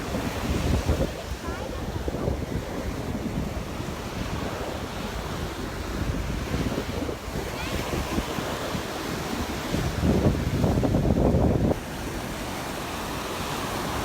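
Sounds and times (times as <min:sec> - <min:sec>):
surf washing onto beach: 0:00.0 - 0:14.0
wind buffeting microphone: 0:00.0 - 0:14.0.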